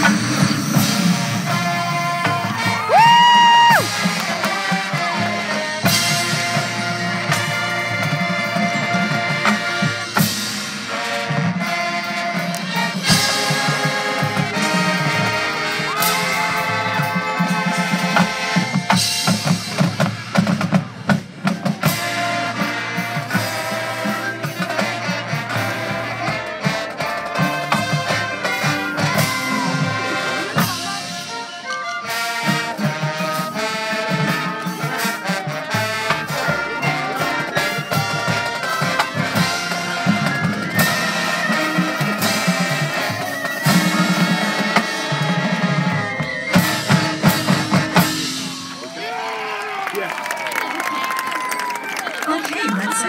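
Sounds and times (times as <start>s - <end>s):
marching band brass: 0.0s - 53.0s.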